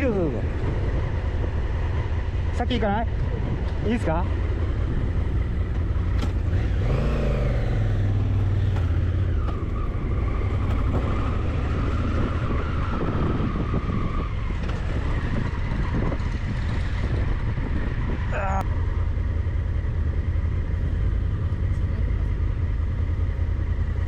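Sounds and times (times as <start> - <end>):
vehicle engine running: 0.0 - 12.3, 14.7 - 24.0.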